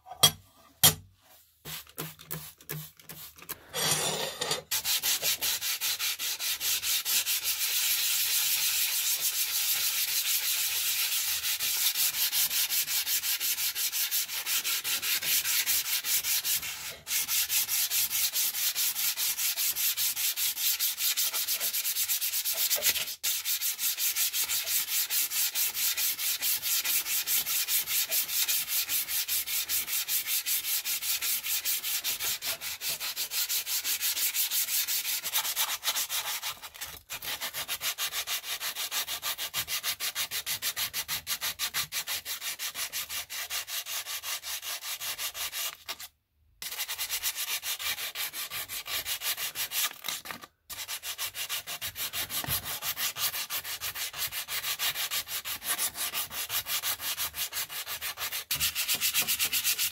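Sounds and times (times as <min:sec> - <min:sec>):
sandpaper rasping on steel: 0:01.6 - 0:59.9.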